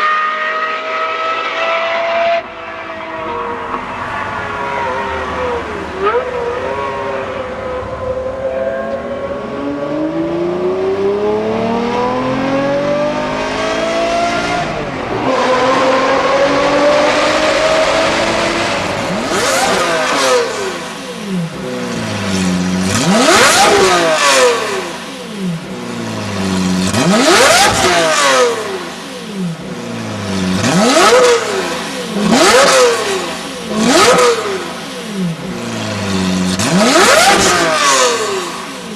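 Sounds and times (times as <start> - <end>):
sports car engine revving: 0.0 - 38.9.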